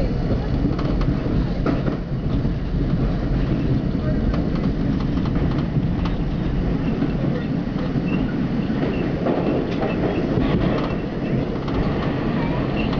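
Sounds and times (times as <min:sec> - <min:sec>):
subway train rumble: 0:00.0 - 0:12.9.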